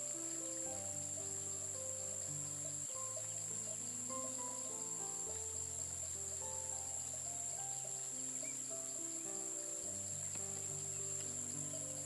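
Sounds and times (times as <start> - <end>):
insects droning: 0.0 - 12.0
soft background music: 0.0 - 12.0.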